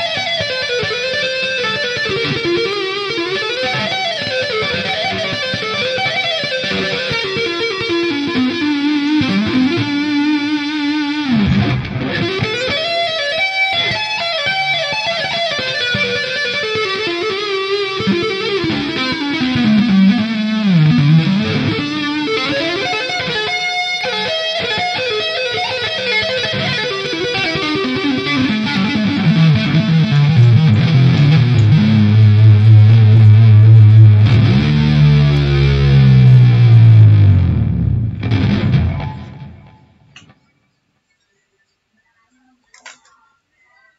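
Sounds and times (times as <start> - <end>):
electric guitar tapping runs: 0.0 - 39.9.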